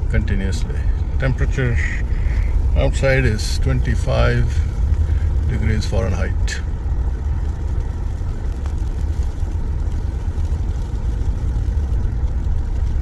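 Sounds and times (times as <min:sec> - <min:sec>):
car driving over snow: 0:00.0 - 0:13.0.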